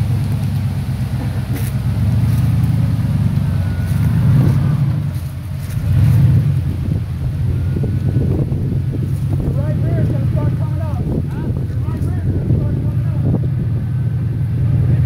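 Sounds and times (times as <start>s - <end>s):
engine rumbling under load: 0.0s - 15.0s.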